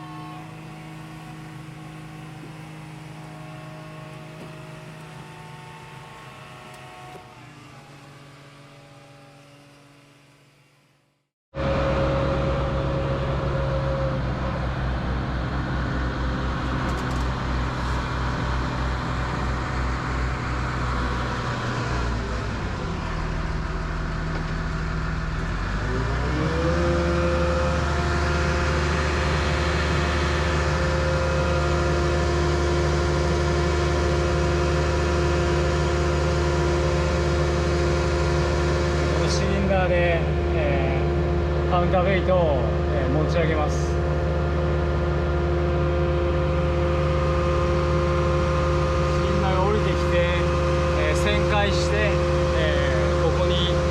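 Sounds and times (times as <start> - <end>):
crane diesel engine running: 0.0 - 10.6, 11.6 - 53.9.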